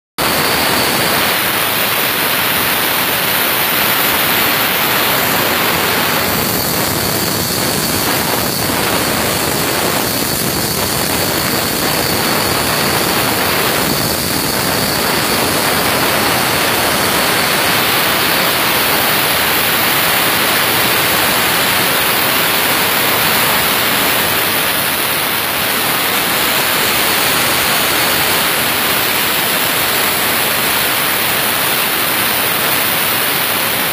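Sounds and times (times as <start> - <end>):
plasma torch hissing: 0.2 - 33.9.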